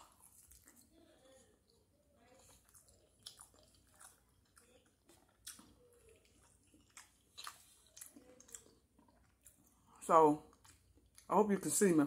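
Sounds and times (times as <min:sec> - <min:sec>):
person chewing: 0:00.0 - 0:11.3.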